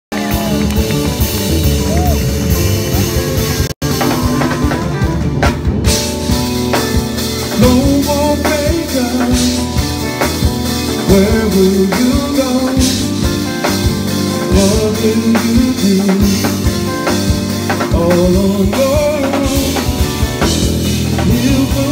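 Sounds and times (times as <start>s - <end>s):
drum kit: 0.1s - 21.9s
electric bass: 0.1s - 21.9s
keyboards: 0.1s - 21.9s.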